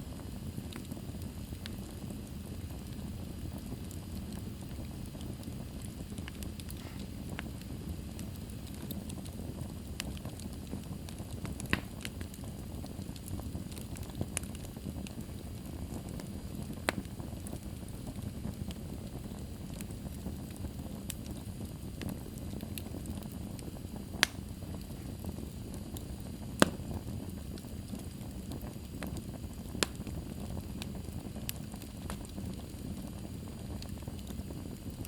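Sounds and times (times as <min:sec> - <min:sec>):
fire crackling and popping: 0:00.0 - 0:35.0
wood fire rumbling: 0:00.0 - 0:35.0.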